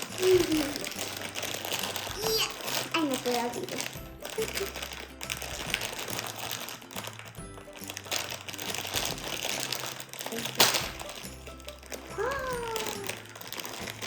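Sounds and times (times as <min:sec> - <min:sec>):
background music: 0:00.0 - 0:14.0
packaging crinkling and tearing: 0:00.0 - 0:14.0.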